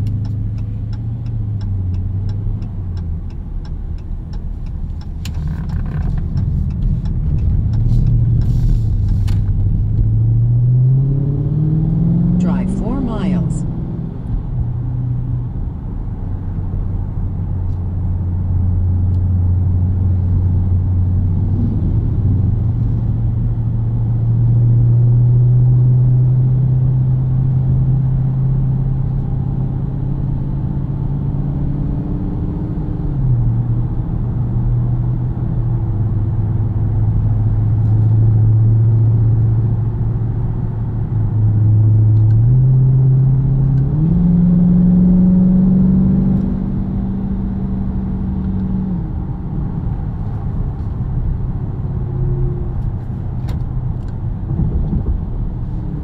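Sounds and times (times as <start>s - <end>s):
car engine humming: 0.0s - 56.0s
road noise: 0.0s - 56.0s.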